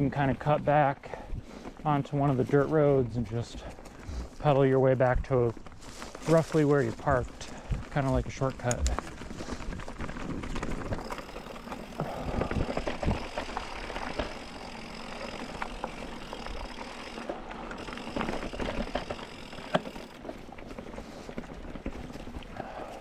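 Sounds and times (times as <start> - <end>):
bike rattling and knocking: 0.0 - 23.0
bike tyres on dirt and stone: 0.0 - 23.0.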